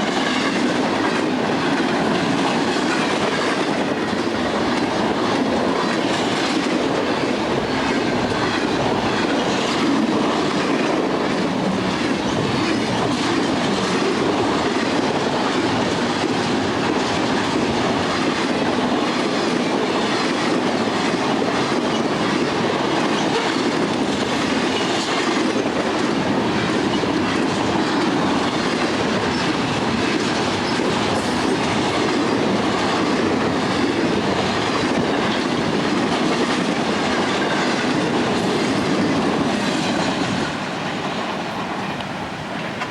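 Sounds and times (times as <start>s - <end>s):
train cars rumbling past: 0.0s - 42.9s
train wheels clacking: 0.0s - 42.9s.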